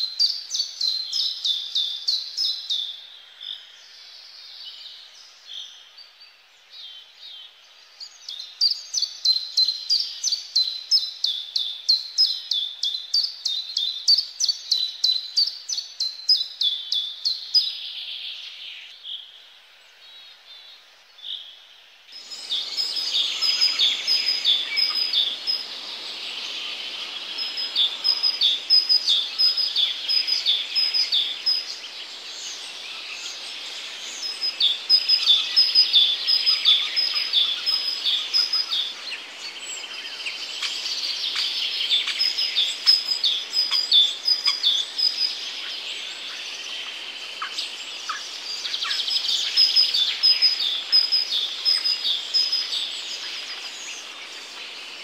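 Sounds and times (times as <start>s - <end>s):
faint outdoor hiss: 0.0s - 55.0s
songbirds chirping: 0.0s - 55.0s.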